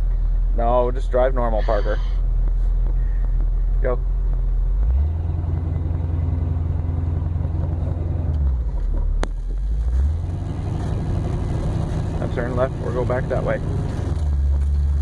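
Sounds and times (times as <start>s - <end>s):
truck engine running: 2.2s - 15.0s.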